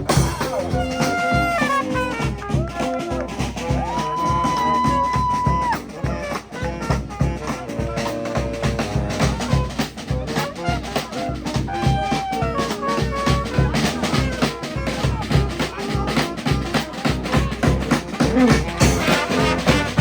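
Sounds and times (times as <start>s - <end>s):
brass band playing: 0.0s - 20.0s
drums keeping a beat: 0.0s - 20.0s.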